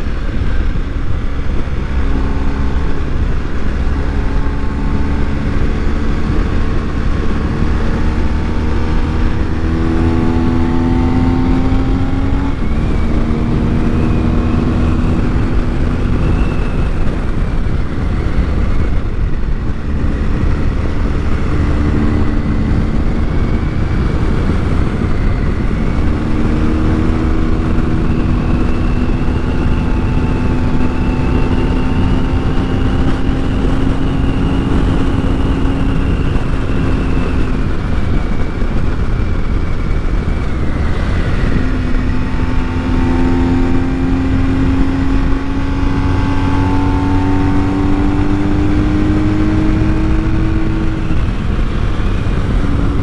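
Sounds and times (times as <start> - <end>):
motorcycle engine under load: 0.0 - 53.0.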